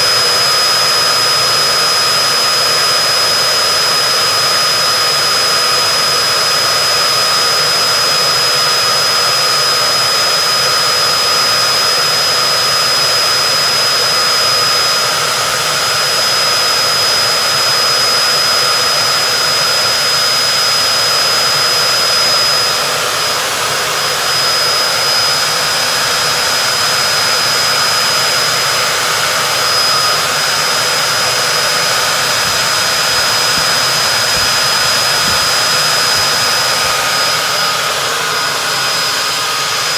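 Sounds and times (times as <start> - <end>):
constant high whine: 0.0 - 39.9
loud cooling fans rushing: 0.0 - 39.9.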